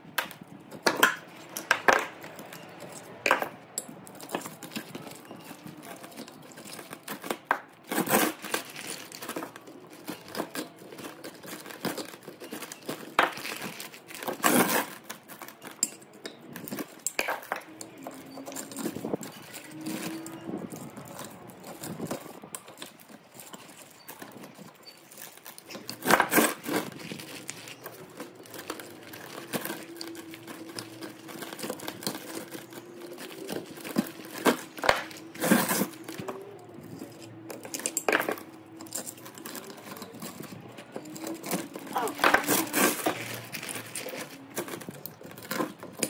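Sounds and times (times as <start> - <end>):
metallic clinks and scrapes: 0.0 - 46.0.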